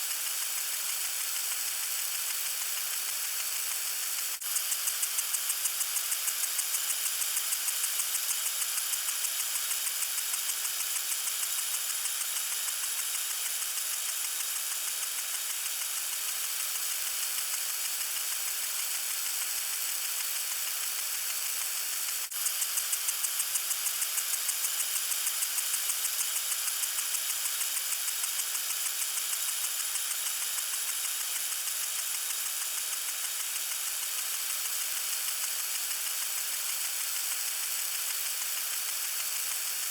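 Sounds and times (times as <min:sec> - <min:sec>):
lawn sprinkler spraying water: 0:00.0 - 0:39.9.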